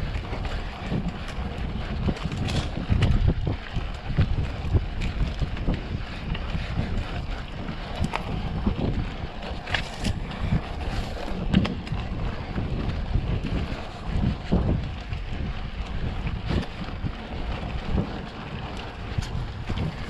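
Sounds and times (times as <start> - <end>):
bike rattling over bumps: 0.0 - 20.0
wind buffeting microphone: 0.0 - 20.0.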